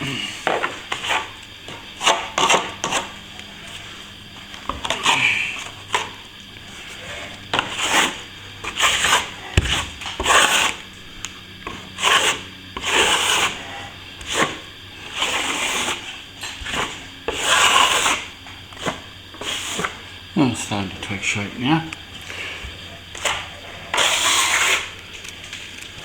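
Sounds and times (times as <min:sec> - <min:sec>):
trowel scraping plaster: 0:00.2 - 0:04.0, 0:04.6 - 0:10.8, 0:11.6 - 0:20.0, 0:22.4 - 0:25.0.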